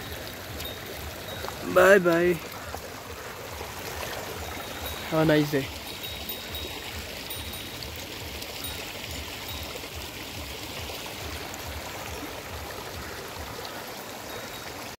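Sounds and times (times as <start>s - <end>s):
stream rushing: 0.0s - 14.9s.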